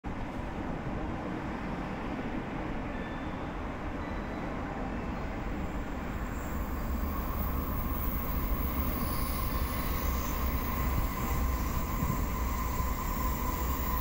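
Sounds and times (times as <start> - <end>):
high-speed train hiss: 0.2 - 14.0.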